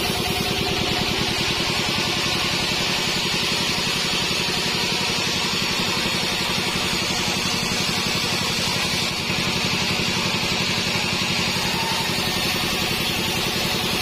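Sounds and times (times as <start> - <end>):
bandsaw machinery running: 0.0 - 14.0.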